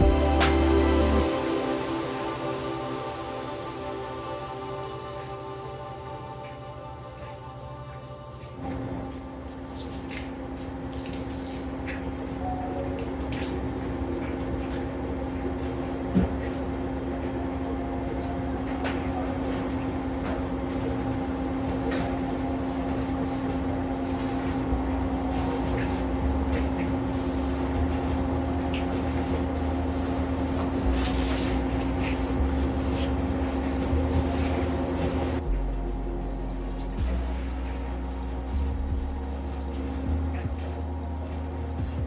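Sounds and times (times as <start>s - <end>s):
machine hum with low rumble: 0.0s - 42.0s.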